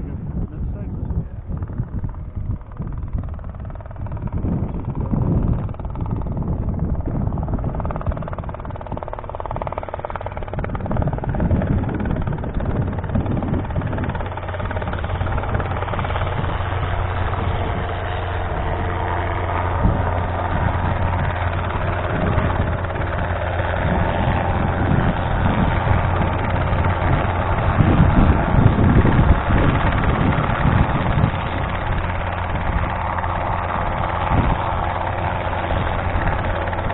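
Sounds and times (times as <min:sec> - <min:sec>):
helicopter drone: 0:00.0 - 0:36.9.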